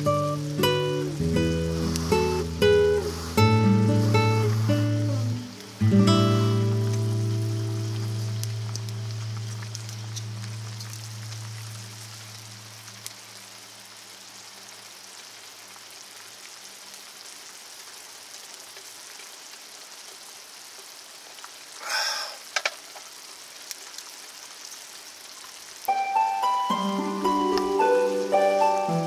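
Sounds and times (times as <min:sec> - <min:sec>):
water boiling and bubbling: 0:00.0 - 0:29.0.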